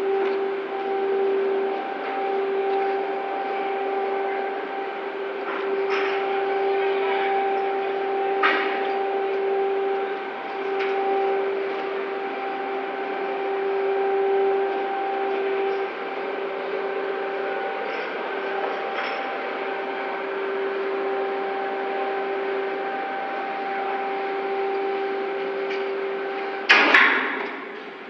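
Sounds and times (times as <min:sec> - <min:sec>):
heavy machinery humming whine: 0:00.0 - 0:28.0.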